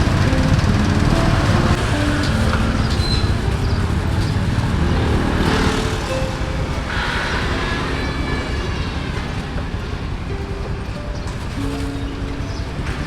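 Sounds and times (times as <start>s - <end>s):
low traffic rumble: 0.0s - 13.0s
vehicles passing: 0.0s - 13.0s.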